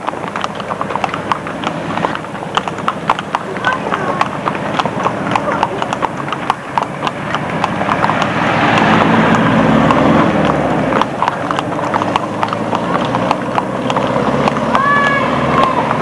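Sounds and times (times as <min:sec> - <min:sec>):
horse hooves on pavement: 0:00.0 - 0:16.0.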